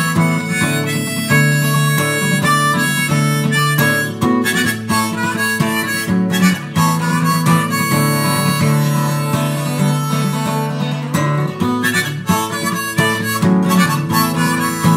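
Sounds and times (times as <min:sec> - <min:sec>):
harmonica playing melody: 0:00.0 - 0:14.9
strummed acoustic guitar: 0:00.0 - 0:14.9.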